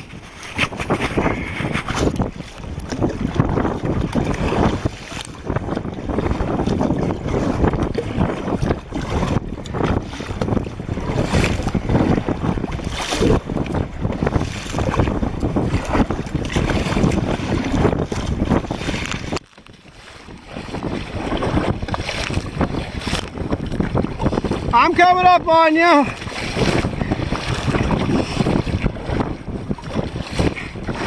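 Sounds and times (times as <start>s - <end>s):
water splashing against kayak hull: 0.0s - 31.0s
wind buffeting microphone: 0.0s - 31.0s.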